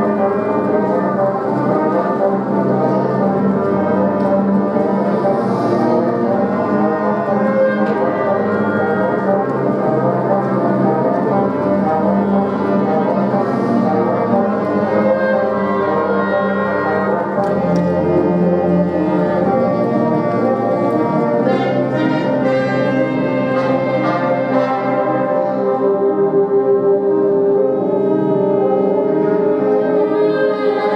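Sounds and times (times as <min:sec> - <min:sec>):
brass instruments playing chords: 0:00.0 - 0:30.9.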